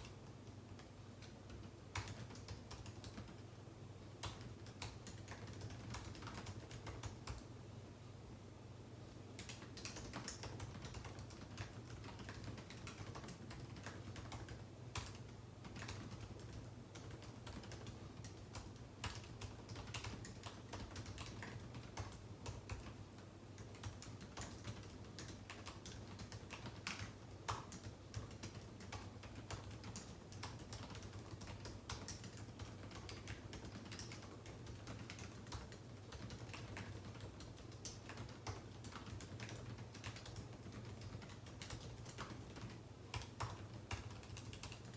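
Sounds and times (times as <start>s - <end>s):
low steady hum: 0.0s - 44.9s
computer keyboard key clicks: 0.8s - 3.4s, 4.2s - 7.4s, 9.4s - 23.0s, 23.6s - 44.9s.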